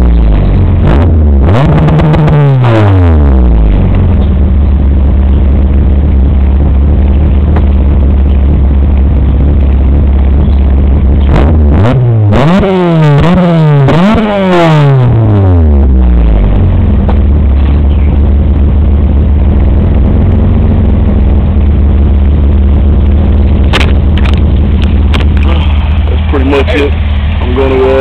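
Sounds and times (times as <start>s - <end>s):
car engine revving and idling: 0.0s - 28.0s.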